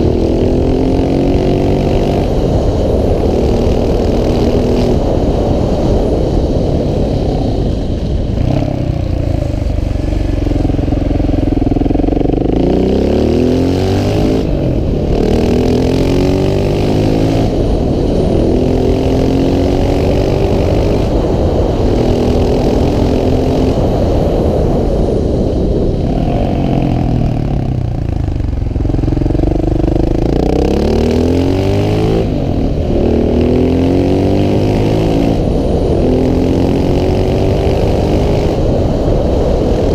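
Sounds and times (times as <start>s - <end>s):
motorcycle engine revving through gears: 0.0s - 25.2s, 26.0s - 39.9s.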